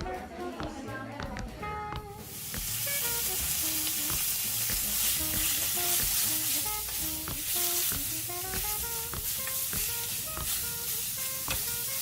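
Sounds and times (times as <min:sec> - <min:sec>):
background music: 0:00.0 - 0:12.0
food sizzling in frying: 0:01.8 - 0:12.0.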